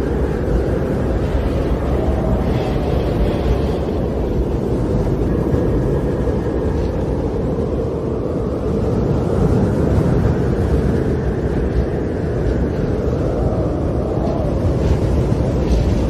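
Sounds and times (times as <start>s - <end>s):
snowstorm wind blowing hard: 0.0s - 16.0s.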